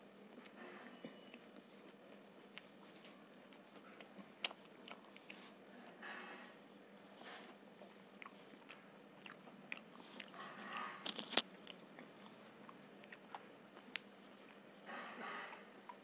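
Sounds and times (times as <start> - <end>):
close chewing: 0.4 - 16.0.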